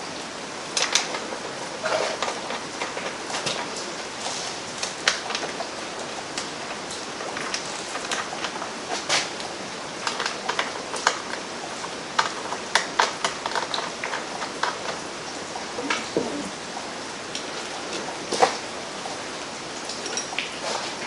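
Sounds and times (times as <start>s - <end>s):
steady rain-like hiss: 0.0s - 21.0s.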